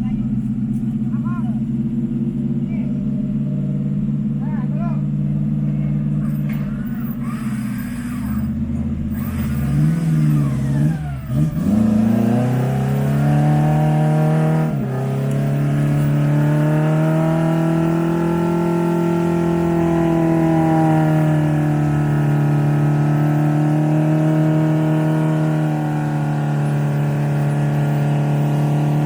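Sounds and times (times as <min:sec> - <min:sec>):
engine running hard under load: 0:05.2 - 0:29.0.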